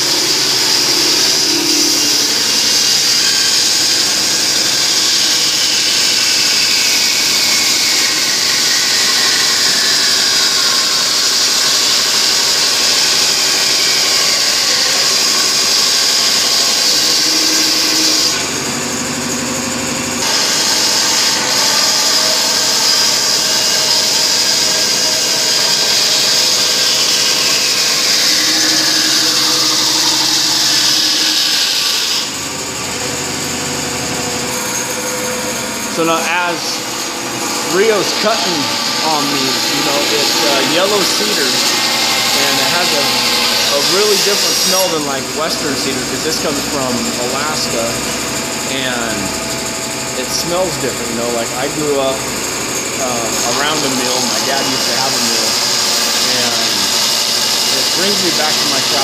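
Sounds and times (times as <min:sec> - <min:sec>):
bandsaw cutting wood: 0:00.0 - 0:59.0.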